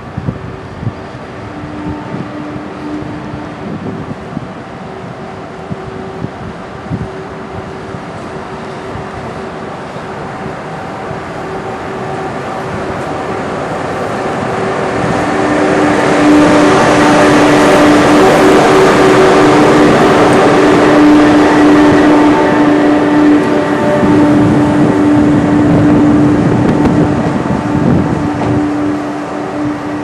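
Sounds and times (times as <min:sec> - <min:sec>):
electric locomotive hum and whine: 0:00.0 - 0:30.0
train running noise: 0:00.0 - 0:30.0.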